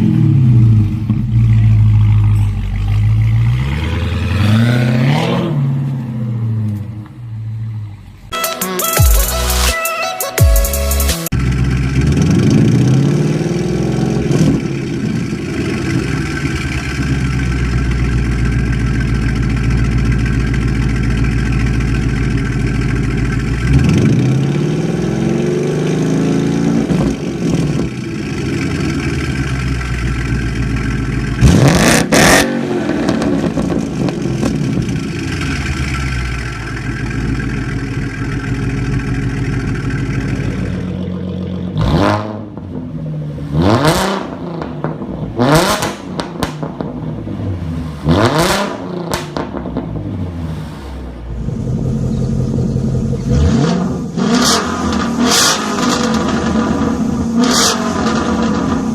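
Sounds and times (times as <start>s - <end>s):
car engine revving: 0.0s - 8.3s, 10.8s - 58.9s.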